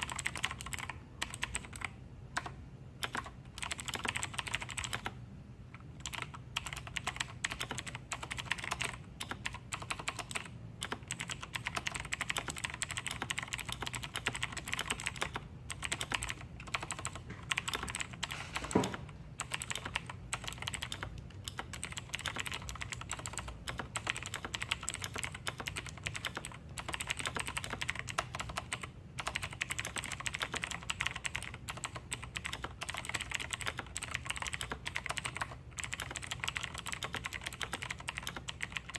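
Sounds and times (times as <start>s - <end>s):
fast mechanical keyboard typing: 0.0s - 5.2s, 6.0s - 38.9s.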